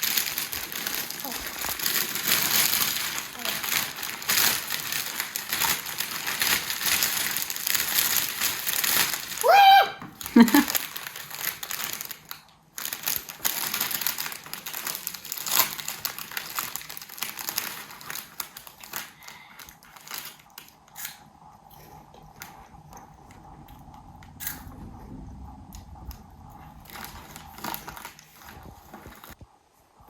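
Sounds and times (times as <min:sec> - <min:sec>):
food packaging crinkling: 0:00.0 - 0:22.6, 0:26.7 - 0:29.4.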